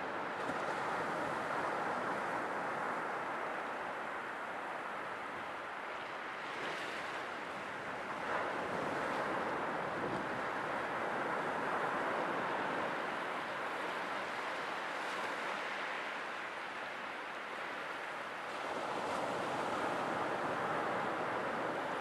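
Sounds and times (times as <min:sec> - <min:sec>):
sea waves washing on shore: 0:00.1 - 0:22.0.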